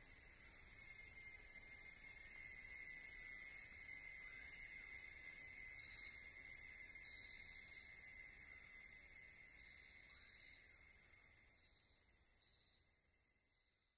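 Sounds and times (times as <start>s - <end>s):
high-pitched insect chorus: 0.4s - 12.8s.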